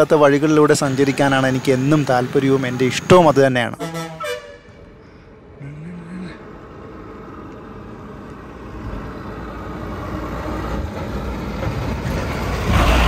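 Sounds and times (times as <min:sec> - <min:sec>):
bus diesel engine passing: 0:00.0 - 0:13.0.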